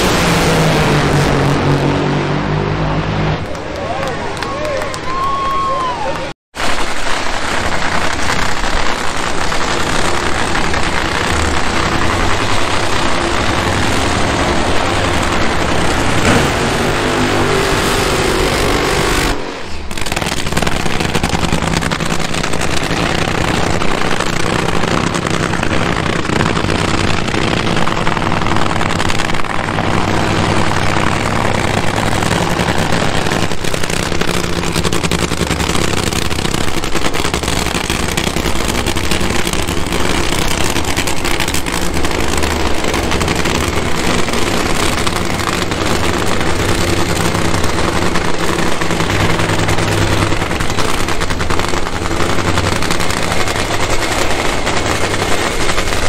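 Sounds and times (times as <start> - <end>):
drag racing engine running: 0.0 - 3.7, 7.3 - 56.0.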